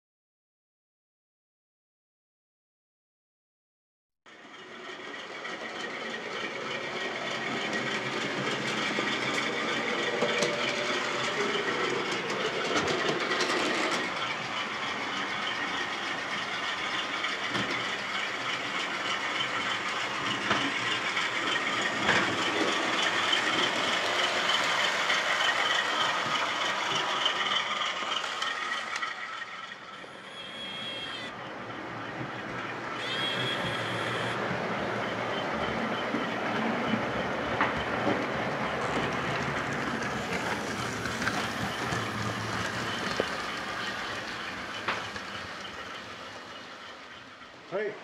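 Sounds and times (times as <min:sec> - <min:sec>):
model train whirring: 0:04.3 - 0:48.0
wheels clicking on rails: 0:04.3 - 0:48.0.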